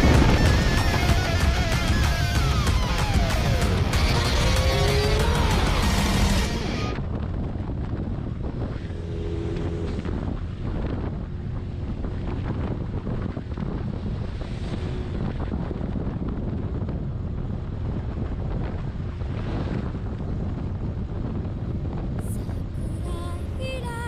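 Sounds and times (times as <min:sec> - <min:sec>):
road noise: 0:00.0 - 0:12.2, 0:12.8 - 0:24.0
motorcycle engine rumble: 0:00.0 - 0:19.3
wind buffeting microphone: 0:00.0 - 0:24.0.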